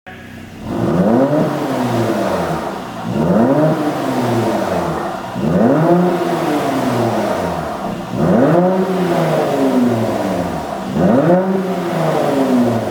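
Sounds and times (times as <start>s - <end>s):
car engine revving: 0.1s - 12.9s
exhaust popping and crackling: 0.1s - 12.9s.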